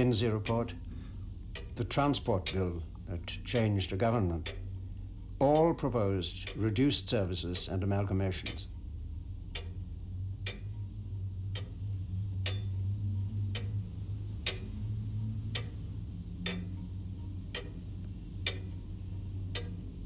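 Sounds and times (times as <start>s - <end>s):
clock ticking: 0.0s - 8.8s, 9.5s - 20.0s
steady low hum: 0.0s - 20.0s.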